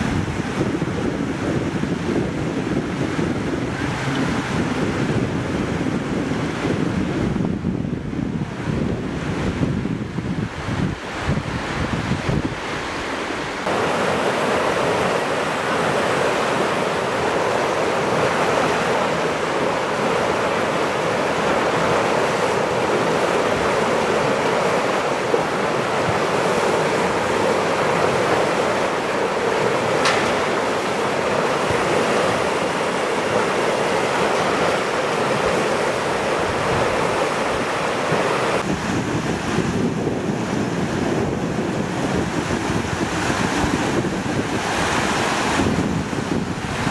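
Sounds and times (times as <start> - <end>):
river water rushing: 0.0 - 46.9
wind buffeting microphone: 0.0 - 46.9.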